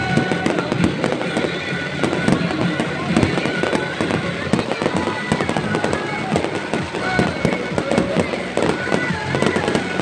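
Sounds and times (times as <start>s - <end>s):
fireworks popping and crackling: 0.0s - 10.0s.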